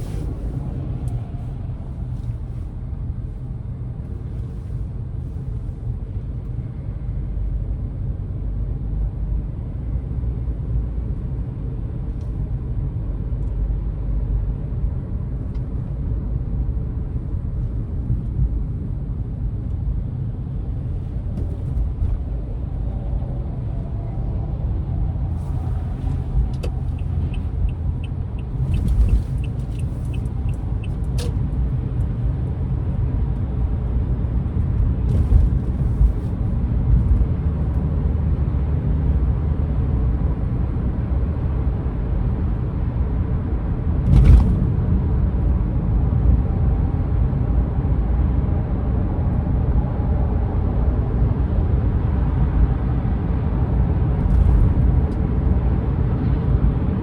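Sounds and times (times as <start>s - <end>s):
engine and road noise rumble: 0.0s - 57.0s.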